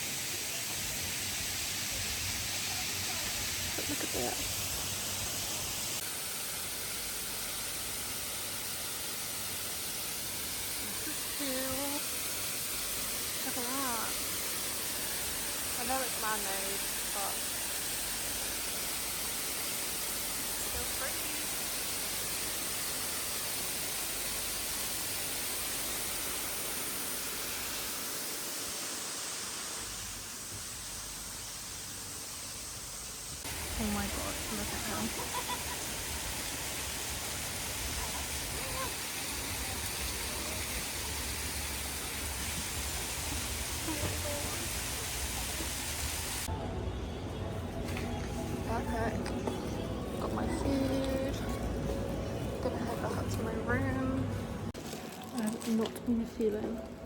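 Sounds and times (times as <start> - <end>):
spraying water hiss: 0.0 - 46.5.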